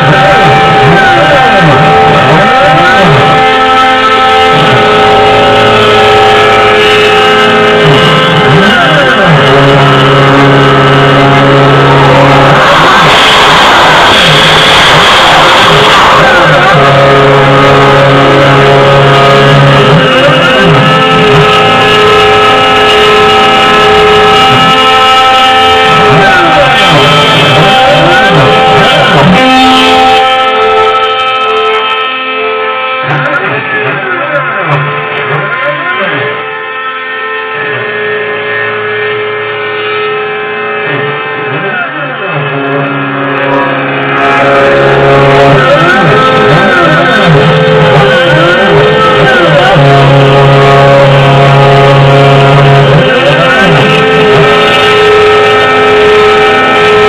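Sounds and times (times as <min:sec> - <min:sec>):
electric guitar music: 0:00.0 - 0:57.0
stepper motors whining: 0:00.0 - 0:57.0.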